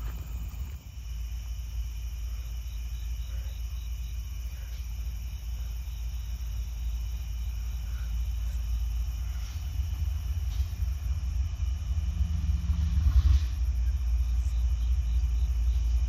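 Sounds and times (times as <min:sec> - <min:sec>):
crickets chirping: 0:00.0 - 0:16.0
locomotive diesel engine rumble: 0:00.0 - 0:16.0.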